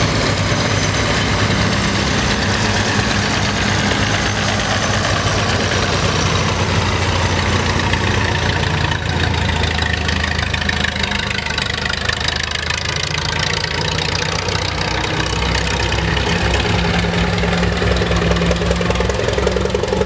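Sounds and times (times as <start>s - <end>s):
tractor engine knocking: 0.0s - 20.0s.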